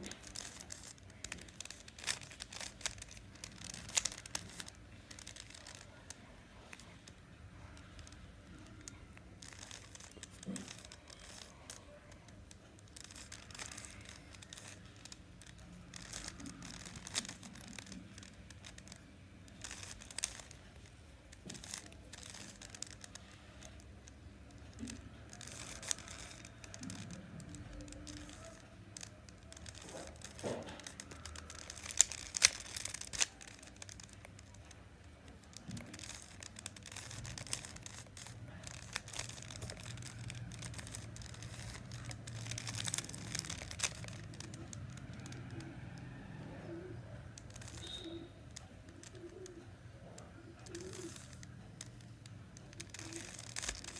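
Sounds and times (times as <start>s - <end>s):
puzzle cube layers clicking: 0.0s - 53.9s.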